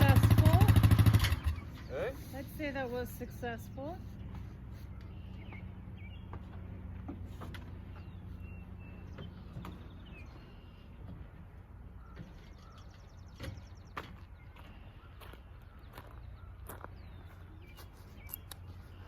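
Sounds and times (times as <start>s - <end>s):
bird chirps: 0.0s - 6.6s, 7.6s - 19.0s
faint low engine hum: 0.0s - 19.0s.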